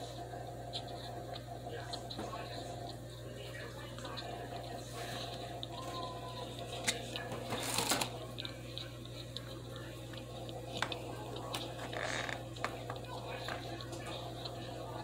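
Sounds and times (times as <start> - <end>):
chewing crunching and squishing: 0.0 - 15.0
low steady hum: 0.0 - 15.0.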